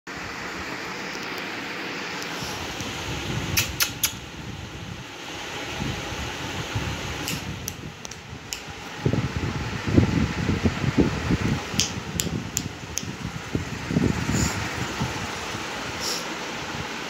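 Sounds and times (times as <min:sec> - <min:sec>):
fan-like whirring: 0:00.1 - 0:17.0.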